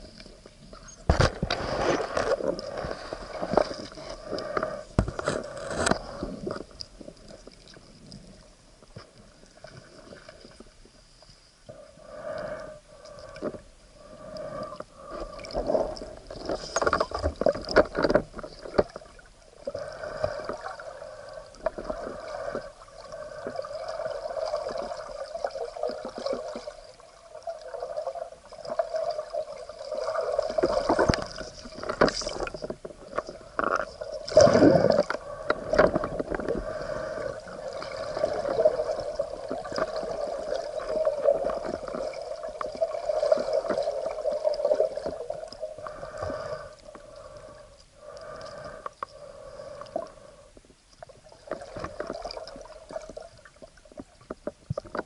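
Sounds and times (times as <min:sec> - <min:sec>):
muffled water gurgling: 0:00.0 - 0:55.0.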